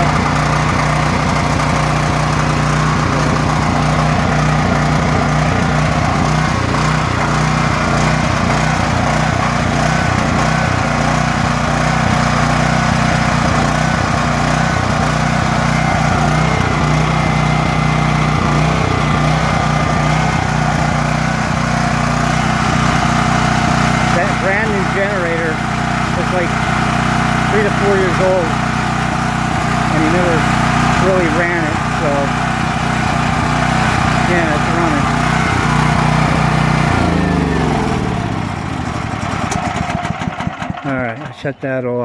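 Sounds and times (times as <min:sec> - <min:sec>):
generator engine running: 0:00.0 - 0:42.0.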